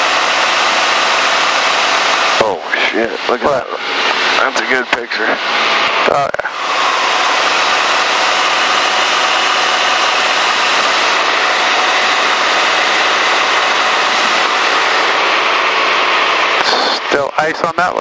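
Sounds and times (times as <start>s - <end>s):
airplane engine and propeller droning: 0.0s - 18.0s.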